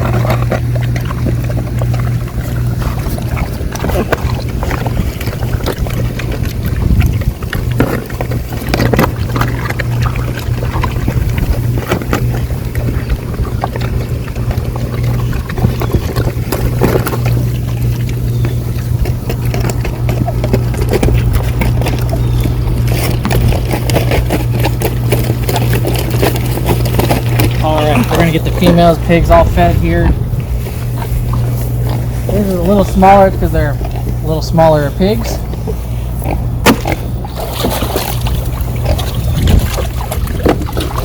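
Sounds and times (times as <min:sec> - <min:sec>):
small engine droning: 0:00.0 - 0:41.0.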